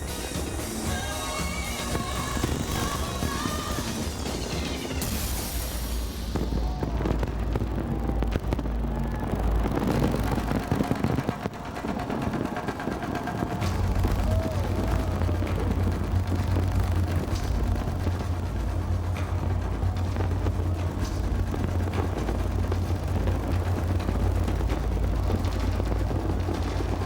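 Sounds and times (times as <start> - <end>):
deep rumble: 0.0 - 27.0
fireworks banging: 0.0 - 27.0
music soundtrack: 0.0 - 27.0.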